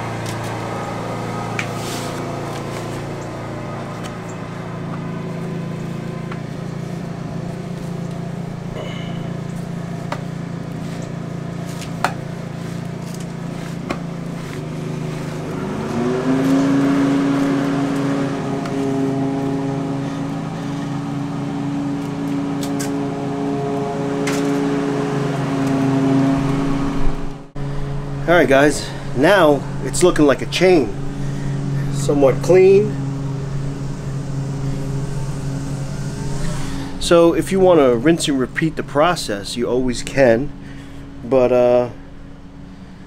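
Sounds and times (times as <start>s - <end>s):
motor humming: 0.0s - 43.0s.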